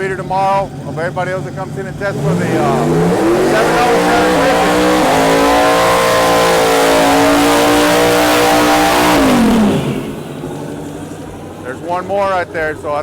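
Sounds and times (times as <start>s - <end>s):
truck engine at full throttle: 0.0s - 13.0s.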